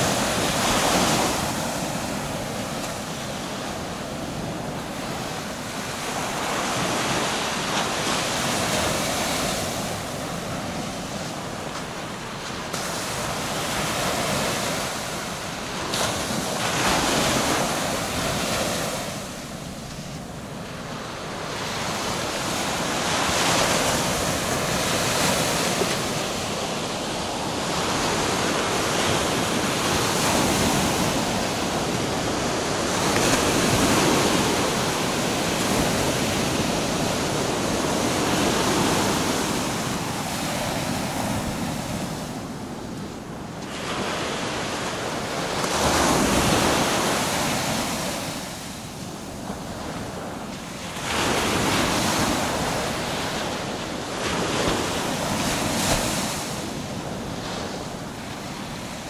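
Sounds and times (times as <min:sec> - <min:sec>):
small waves washing on beach: 0:00.0 - 0:59.0.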